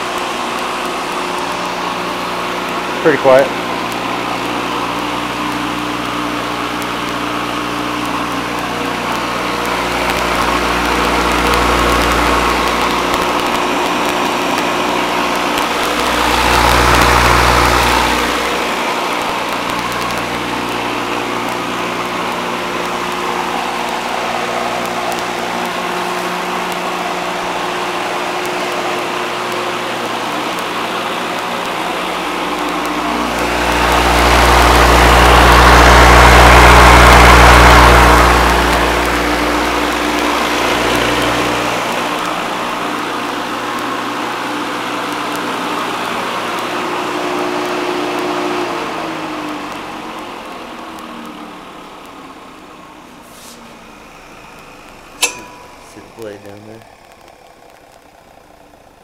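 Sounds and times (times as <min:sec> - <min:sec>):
electric motor humming: 0:00.0 - 0:59.0.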